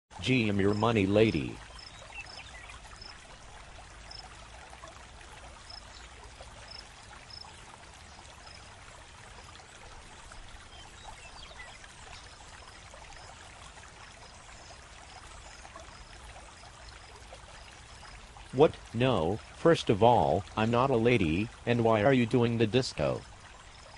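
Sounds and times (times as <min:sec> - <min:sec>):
faint background hiss: 0:00.2 - 0:23.9.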